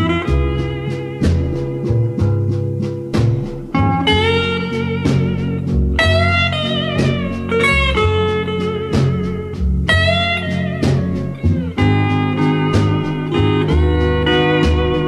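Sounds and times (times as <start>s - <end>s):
guitar and bass backing: 0.0s - 15.0s
steel guitar melody: 0.0s - 15.0s.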